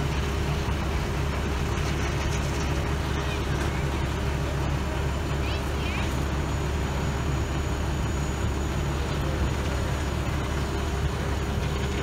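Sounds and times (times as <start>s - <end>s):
fire engine pump droning: 0.0s - 12.0s.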